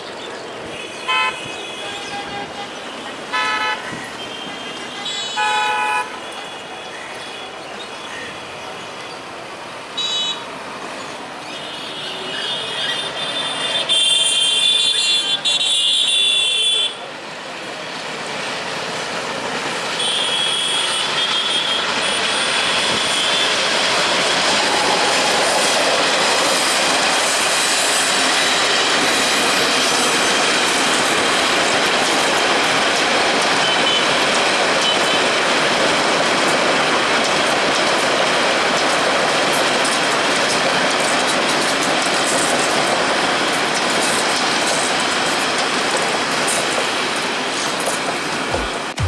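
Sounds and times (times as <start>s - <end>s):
train wheels rushing on rails: 0.0s - 49.0s.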